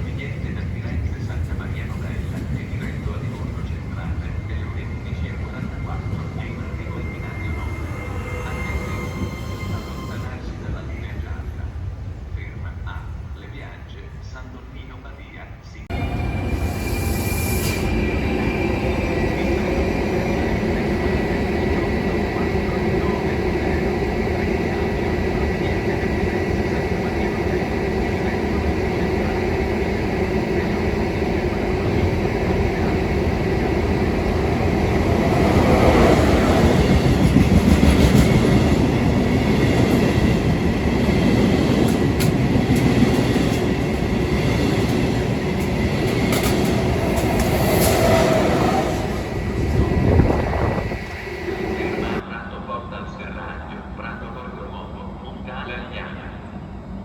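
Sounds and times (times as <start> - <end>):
train wheels rumbling on rails: 0.0 - 13.7, 15.9 - 52.2.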